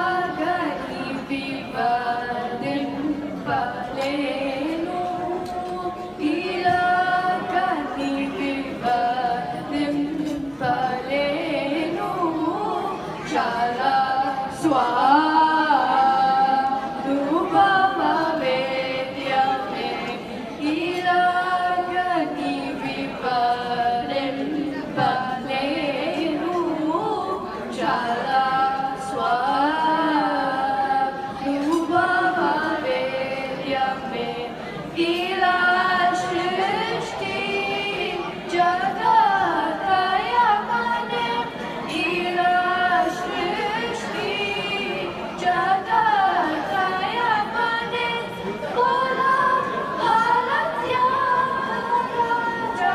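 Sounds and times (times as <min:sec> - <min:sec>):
girls singing into microphones: 0:00.0 - 0:52.9.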